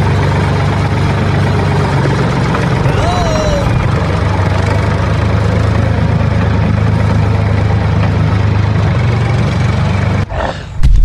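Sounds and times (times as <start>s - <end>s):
tractor engine idling: 0.0s - 10.3s.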